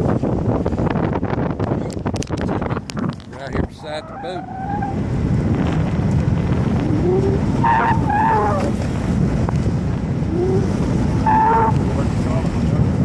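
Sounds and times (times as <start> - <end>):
boat engine rumble: 0.0 - 13.0
water around boat: 0.0 - 13.0.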